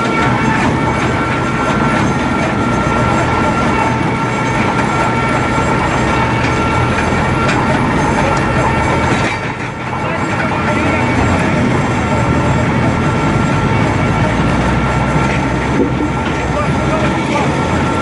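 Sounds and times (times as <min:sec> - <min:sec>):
log debarking machine running: 0:00.0 - 0:18.0.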